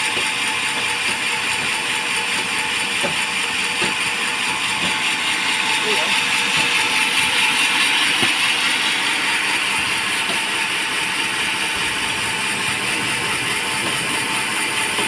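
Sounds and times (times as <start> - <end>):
band sawmill hissing: 0.0 - 15.0.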